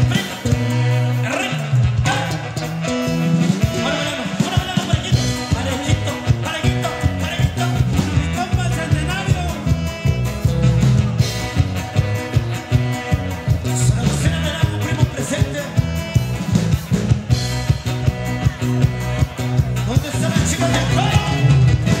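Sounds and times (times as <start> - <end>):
live band with electric guitars: 0.0 - 22.0.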